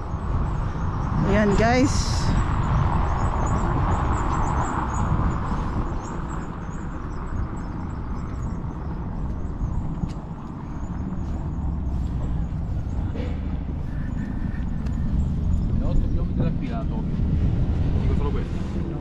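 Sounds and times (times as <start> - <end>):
traffic rumble: 0.0 - 19.0
wind noise: 0.0 - 19.0.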